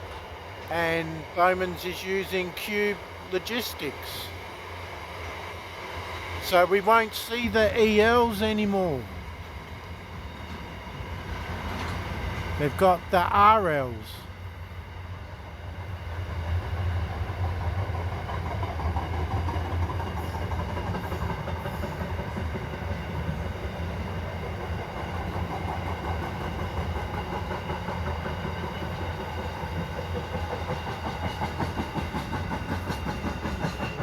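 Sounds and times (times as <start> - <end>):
wheels clickety-clack over track: 0.0 - 4.3, 6.4 - 14.2, 15.7 - 34.0
freight train wheels rumbling: 0.0 - 34.0.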